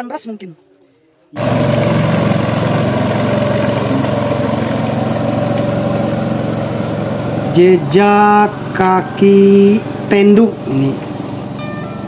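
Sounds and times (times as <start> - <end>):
engine running steadily: 1.4 - 12.0.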